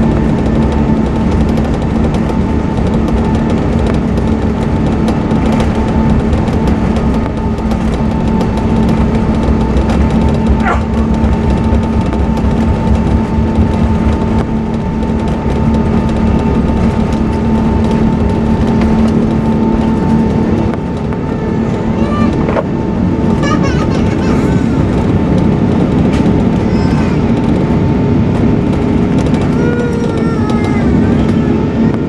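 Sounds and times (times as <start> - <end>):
aircraft cabin engine rumble: 0.0 - 32.0.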